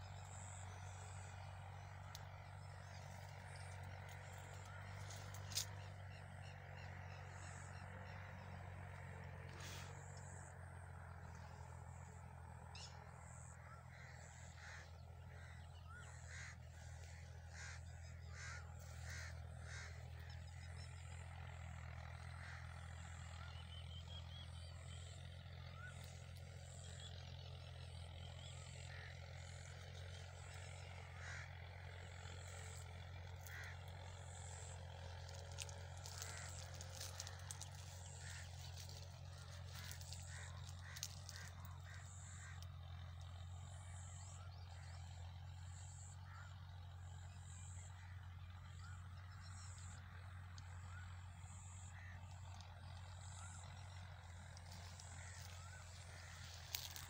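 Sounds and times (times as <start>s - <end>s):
birds calling: 0.0s - 57.0s
steady low hum: 0.0s - 57.0s.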